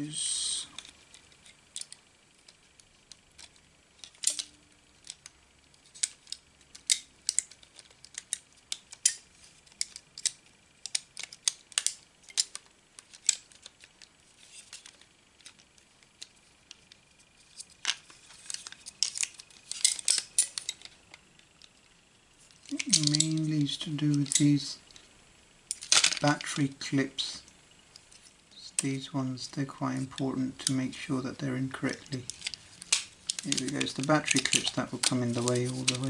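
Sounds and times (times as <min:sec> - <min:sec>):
plastic parts clicking and tapping: 0:00.8 - 0:21.9, 0:22.5 - 0:25.1, 0:25.7 - 0:26.6, 0:31.7 - 0:36.0.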